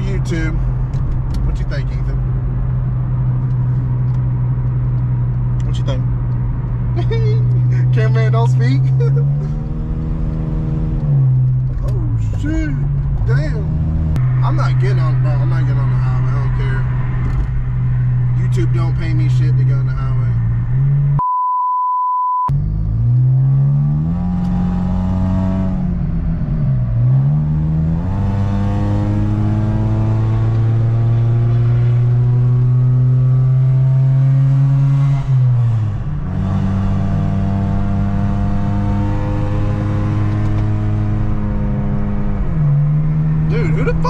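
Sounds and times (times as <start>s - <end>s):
car engine accelerating: 0.0s - 21.2s, 22.5s - 44.0s.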